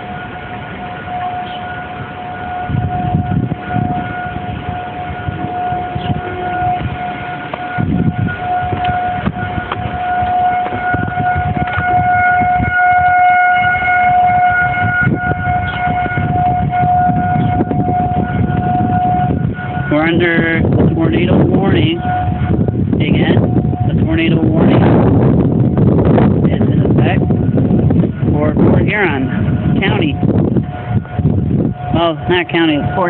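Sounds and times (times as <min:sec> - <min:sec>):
low rumble: 0:00.0 - 0:33.0
warning siren wailing: 0:00.0 - 0:33.0.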